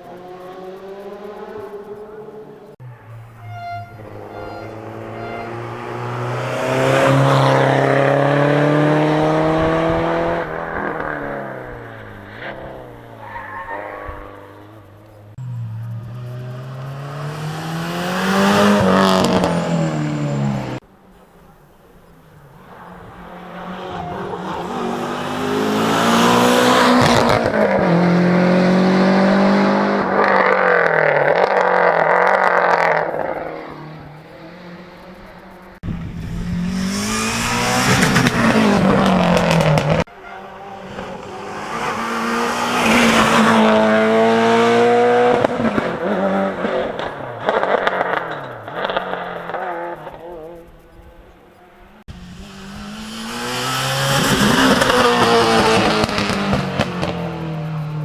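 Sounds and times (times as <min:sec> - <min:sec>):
rally cars passing at speed: 0:00.0 - 0:21.2, 0:22.2 - 0:58.0.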